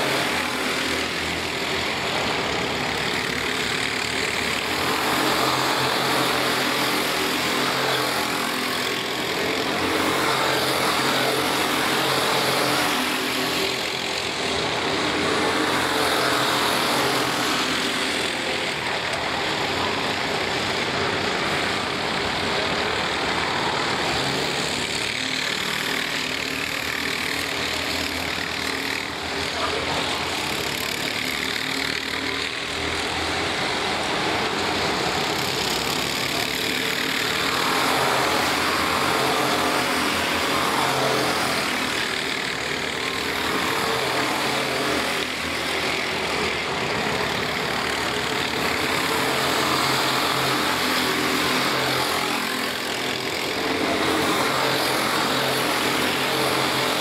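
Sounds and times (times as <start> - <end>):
racing kart engines: 0.0 - 57.0.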